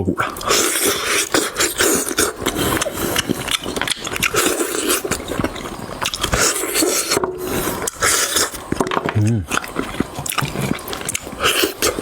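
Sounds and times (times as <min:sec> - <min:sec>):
person chewing meat: 0:00.0 - 0:12.0.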